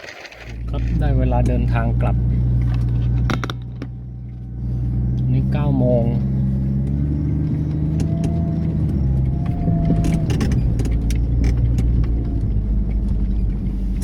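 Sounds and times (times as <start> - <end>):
vehicle engine running: 0.4 - 14.0.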